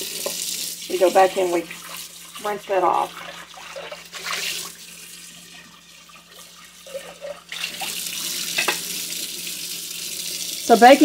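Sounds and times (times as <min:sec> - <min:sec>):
faucet running: 0:00.0 - 0:11.0
saucepan rinsed under water: 0:00.0 - 0:11.0
water stream on bare sink: 0:00.0 - 0:11.0.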